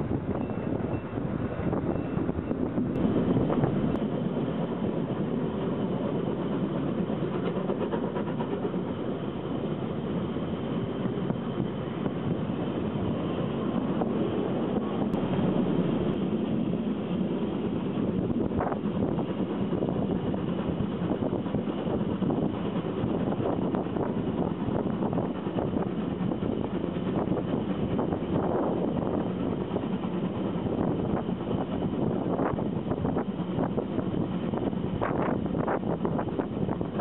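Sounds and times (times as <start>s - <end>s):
train wheels rumbling and rattling: 0.0s - 37.0s.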